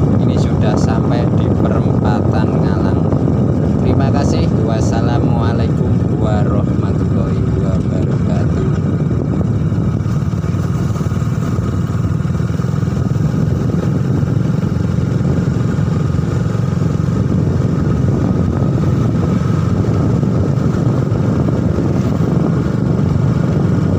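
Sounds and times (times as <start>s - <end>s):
motorcycle engine running: 0.0s - 23.9s
road and wind noise: 0.0s - 23.9s.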